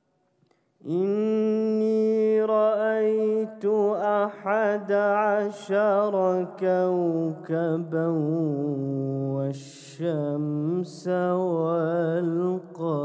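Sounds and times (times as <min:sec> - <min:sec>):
man chanting melodically: 0:00.9 - 0:13.0.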